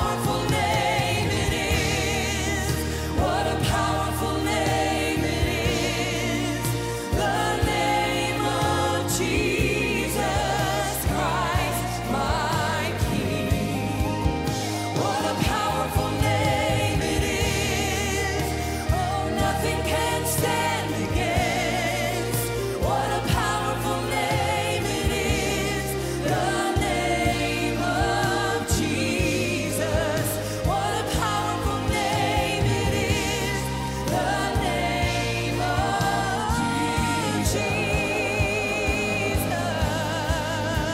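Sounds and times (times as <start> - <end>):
band with drums and bass: 0.0 - 40.9
choir singing: 0.0 - 40.9.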